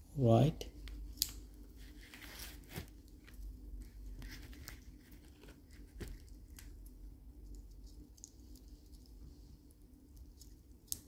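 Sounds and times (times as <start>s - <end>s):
wire crinkling and clicking: 0.7s - 11.0s.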